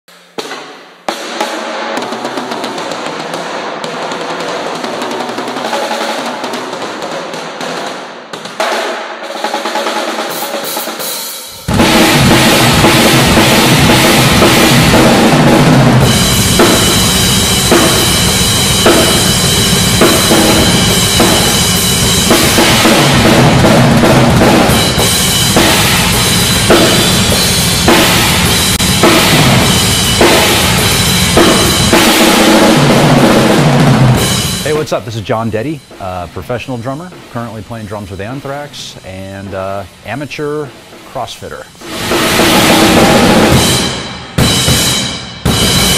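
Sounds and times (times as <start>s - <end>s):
drum kit played hard: 0.1s - 45.9s.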